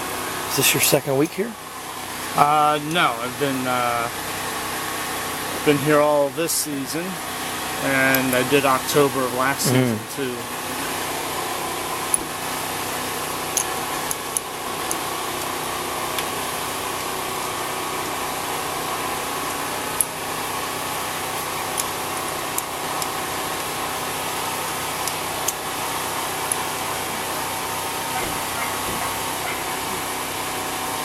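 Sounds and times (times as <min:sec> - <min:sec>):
engine hum: 0:00.0 - 0:31.0.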